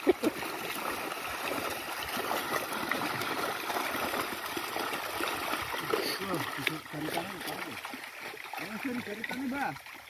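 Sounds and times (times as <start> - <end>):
fish thrashing in shallow water: 0.0 - 10.0.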